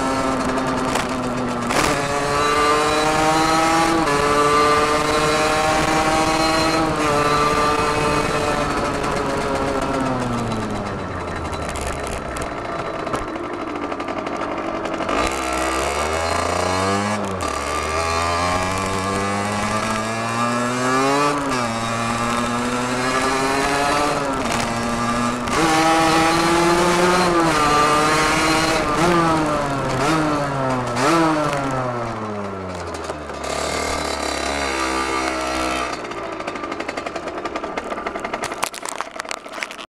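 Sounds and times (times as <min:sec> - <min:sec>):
two-stroke motorcycle revving: 0:00.0 - 0:39.9.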